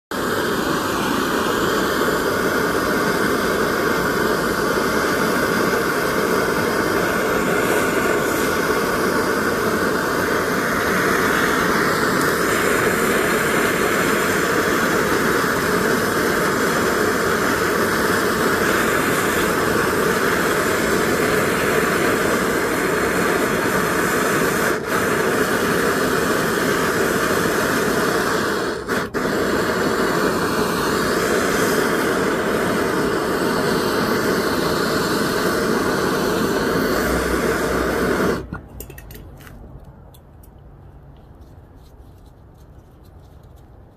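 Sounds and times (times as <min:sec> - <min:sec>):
gas torch hissing: 0:00.0 - 0:39.2.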